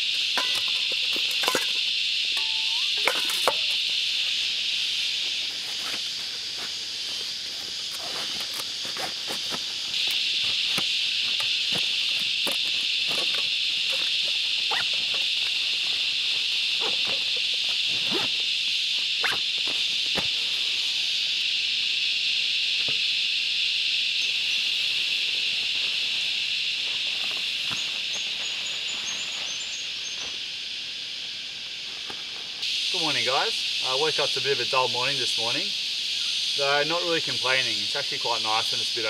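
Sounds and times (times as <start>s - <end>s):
cicadas chorus: 0.0s - 39.0s.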